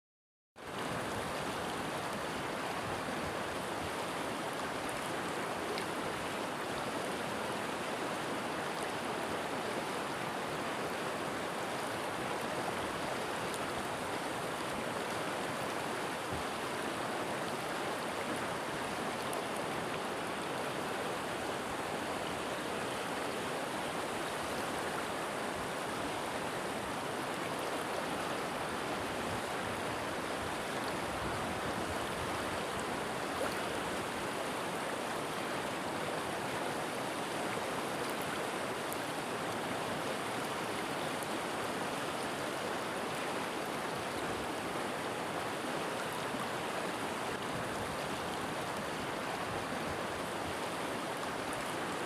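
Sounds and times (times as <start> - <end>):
river water rushing over rocks: 0.6 - 52.0.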